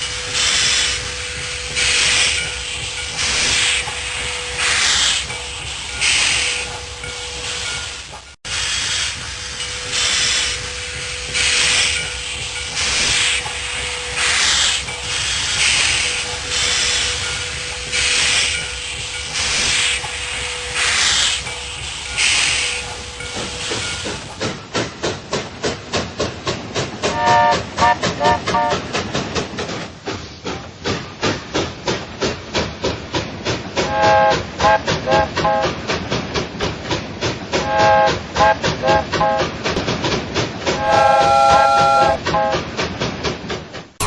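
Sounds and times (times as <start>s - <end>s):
model steam train chuffing: 0.0s - 44.0s.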